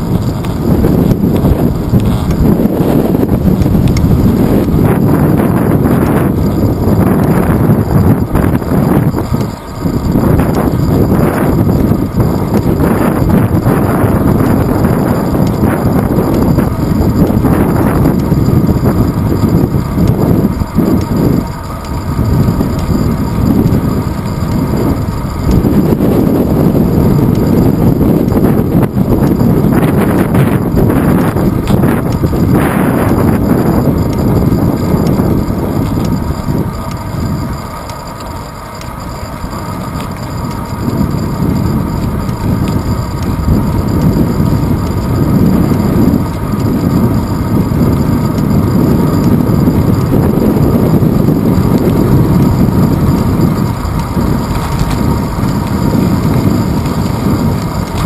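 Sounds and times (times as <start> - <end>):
tyre and road rumble: 0.0 - 58.0
wind buffeting a camera: 0.0 - 58.0.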